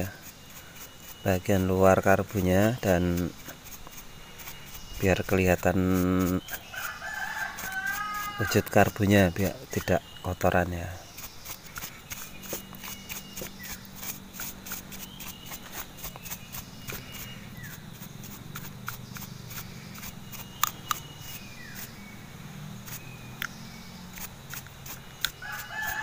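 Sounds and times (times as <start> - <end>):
brush scrubbing metal part: 0.0 - 22.0, 22.8 - 26.0.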